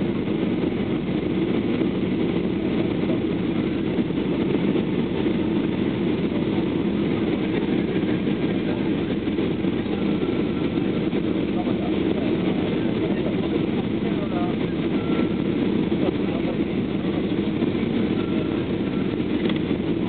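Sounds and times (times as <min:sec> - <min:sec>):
jet airliner cabin drone: 0:00.0 - 0:20.0.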